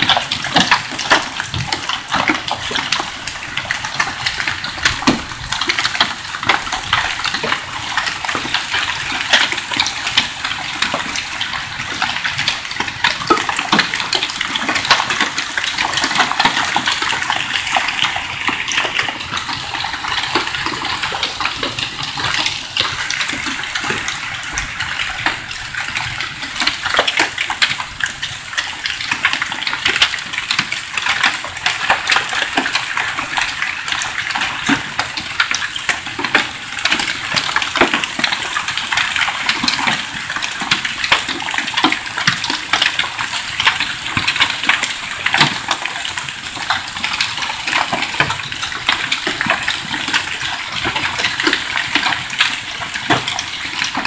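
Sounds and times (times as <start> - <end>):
hailstones clattering on vehicles: 0.0 - 54.0
rain: 0.0 - 54.0.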